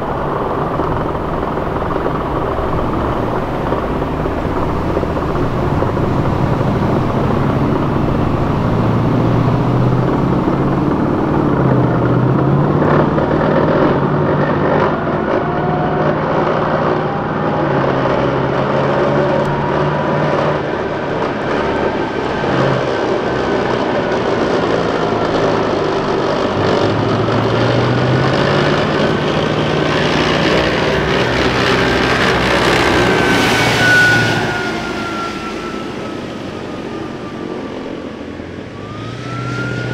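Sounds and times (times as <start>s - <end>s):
heavy diesel engines passing: 0.0s - 39.9s
high vehicle whine: 0.0s - 39.9s.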